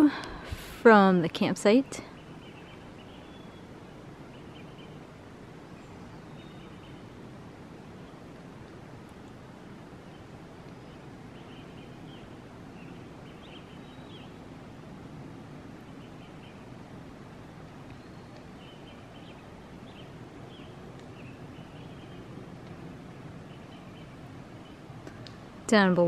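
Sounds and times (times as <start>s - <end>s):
songbird chirping: 0.0s - 14.7s, 15.7s - 26.0s
distant falling water: 0.0s - 26.0s.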